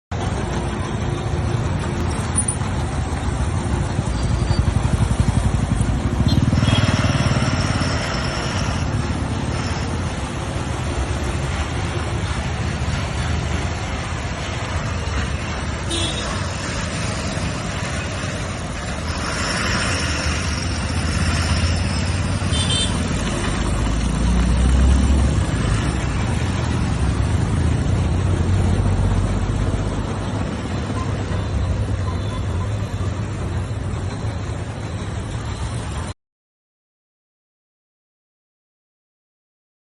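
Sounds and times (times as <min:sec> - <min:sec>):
road traffic rumble: 0:00.1 - 0:36.2.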